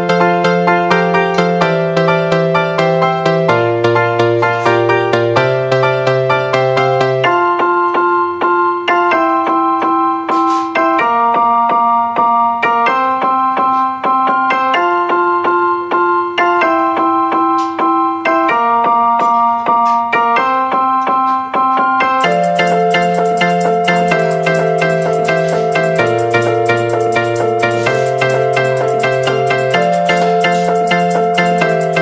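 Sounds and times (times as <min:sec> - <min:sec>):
electric piano chords: 0:00.0 - 0:32.0.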